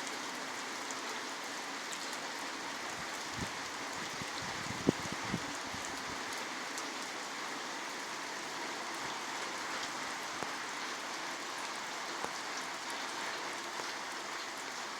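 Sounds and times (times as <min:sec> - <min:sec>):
steady rain falling: 0:00.0 - 0:14.9.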